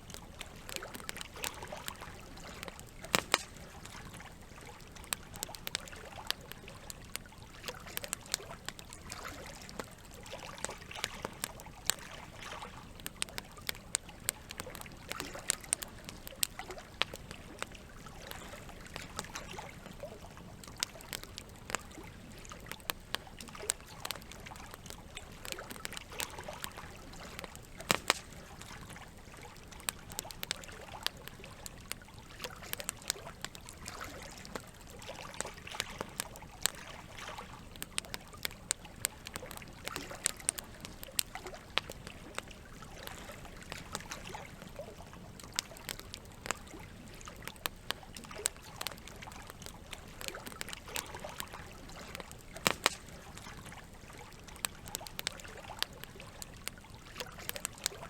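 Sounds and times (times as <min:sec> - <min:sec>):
campfire crackling and popping: 0:00.0 - 0:58.0
running water trickling: 0:00.0 - 0:58.0.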